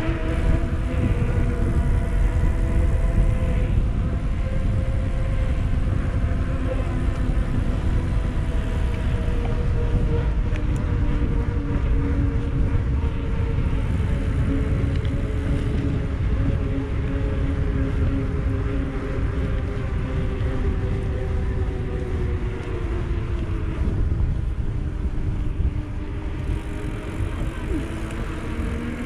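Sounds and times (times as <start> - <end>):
faint steady hum: 0.0 - 29.0
wind rushing over microphone: 0.0 - 29.0.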